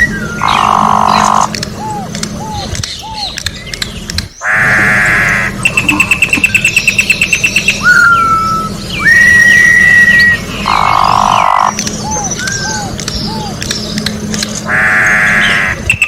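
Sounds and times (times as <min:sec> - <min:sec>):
bird song with whistles and rattle: 0:00.0 - 0:16.0.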